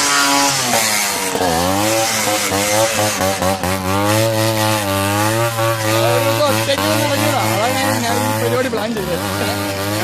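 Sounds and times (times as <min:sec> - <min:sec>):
two-stroke motorcycle engine revving: 0:00.0 - 0:10.0.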